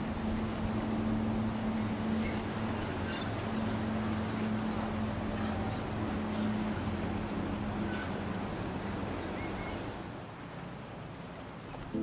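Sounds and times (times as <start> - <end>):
motorboat engine humming: 0.0 - 12.0
rushing water wash: 0.0 - 12.0.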